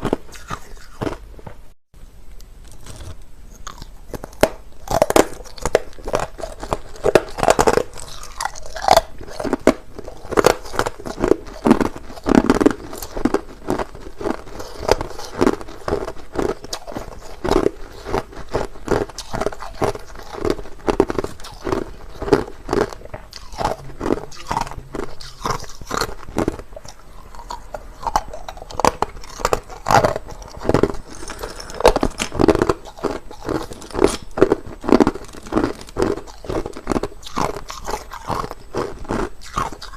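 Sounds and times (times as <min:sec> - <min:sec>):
chewing crushed ice: 0:00.0 - 0:01.6, 0:02.7 - 0:39.9.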